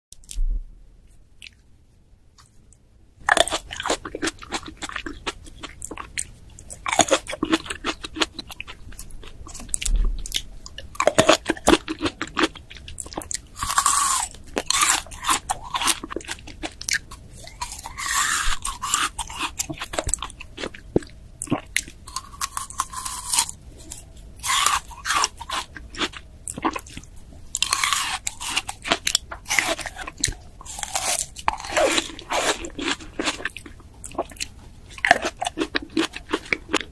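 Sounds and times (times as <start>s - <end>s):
crunchy chewing: 3.2s - 36.9s.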